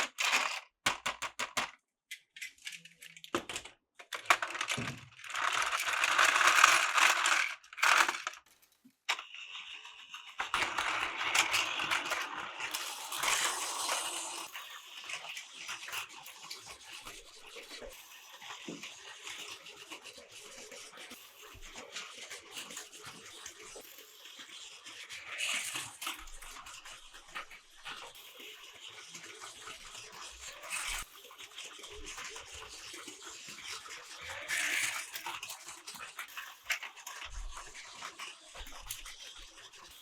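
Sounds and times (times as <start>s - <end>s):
toy train motor whirring: 4.1s - 8.5s, 9.1s - 40.0s.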